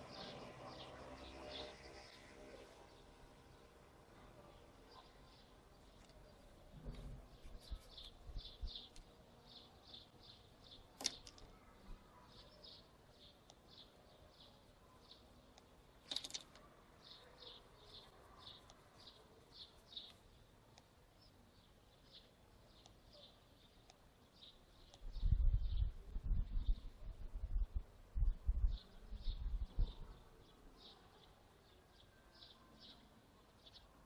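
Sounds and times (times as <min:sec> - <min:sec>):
small bird chirping: 0:04.4 - 0:34.0.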